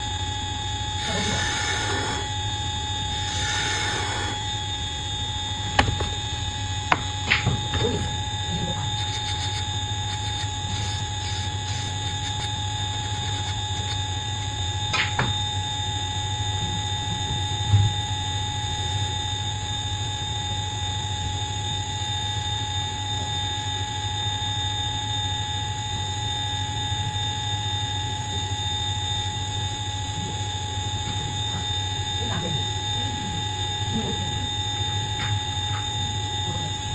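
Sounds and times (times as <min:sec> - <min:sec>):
machine motor humming: 0:00.0 - 0:20.1, 0:26.5 - 0:36.9
high whine: 0:00.0 - 0:36.9.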